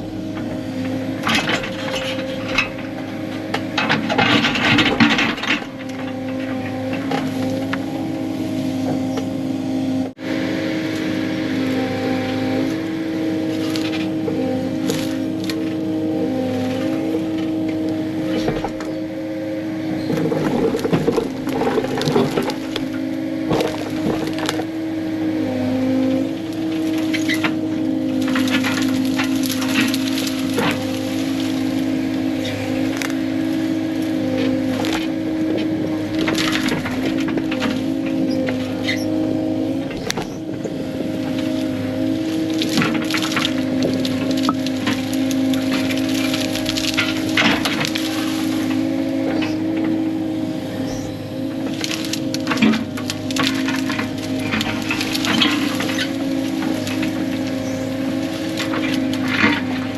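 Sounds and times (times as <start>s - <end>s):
excavator diesel engine running: 0.0s - 59.9s
branches crackling and snapping: 0.4s - 9.4s, 10.8s - 59.9s.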